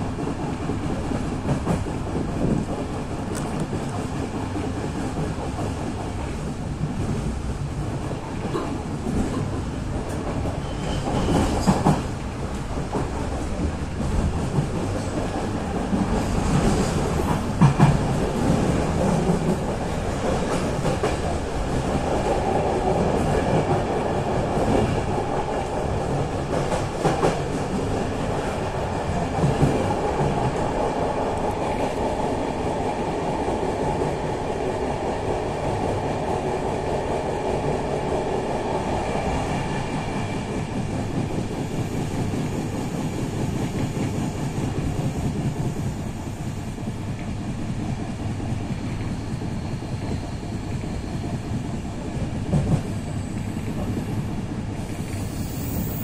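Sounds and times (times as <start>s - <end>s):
train rumble from inside carriage: 0.0s - 56.0s.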